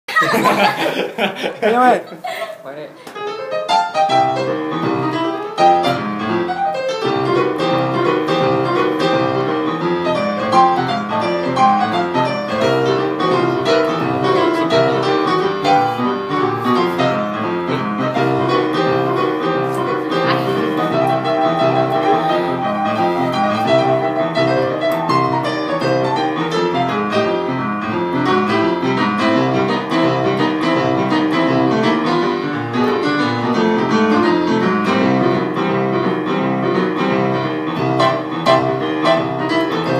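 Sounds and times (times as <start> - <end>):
piano playing: 3.2 - 39.9.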